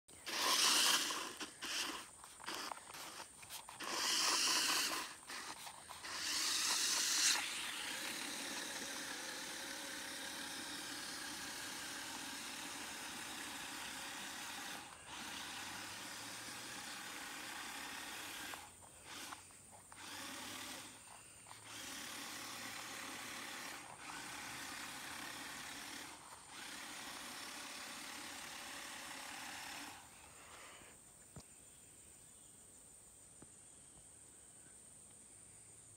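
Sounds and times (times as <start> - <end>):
toy car motors whining: 0.1 - 31.0.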